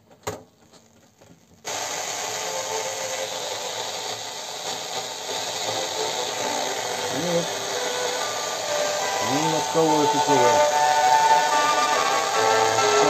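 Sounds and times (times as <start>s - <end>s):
radio static hiss: 1.6s - 13.0s.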